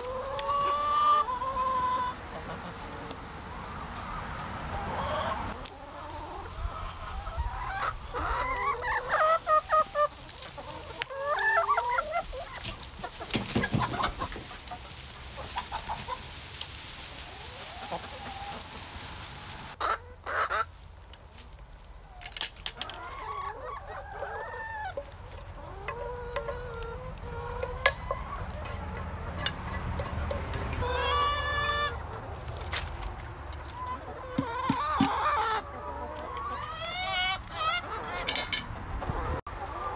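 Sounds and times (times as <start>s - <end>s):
chickens clucking: 0.0s - 39.9s
chickens squawking: 0.0s - 39.9s.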